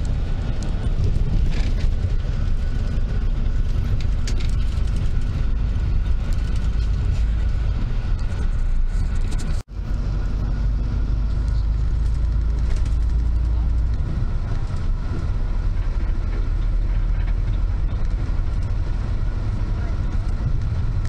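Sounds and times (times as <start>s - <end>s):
bus engine rumble: 0.0s - 21.0s
road noise: 0.0s - 21.0s.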